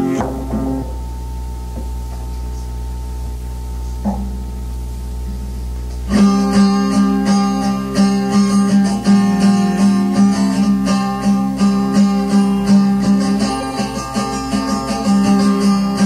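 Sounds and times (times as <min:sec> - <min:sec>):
cassette tape hum: 0:00.0 - 0:16.0
guitar music: 0:00.0 - 0:16.0.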